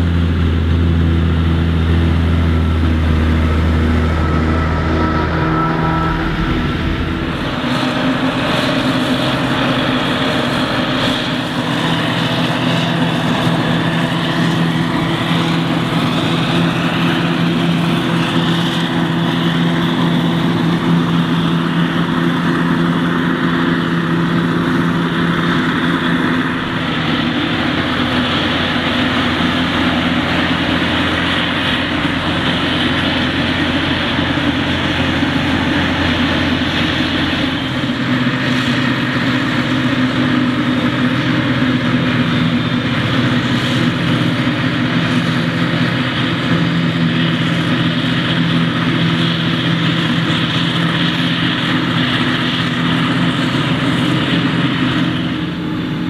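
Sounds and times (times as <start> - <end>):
forage harvester engine under load: 0.0 - 56.0
tractor running: 0.0 - 56.0
rushing noise of chopper: 1.2 - 56.0.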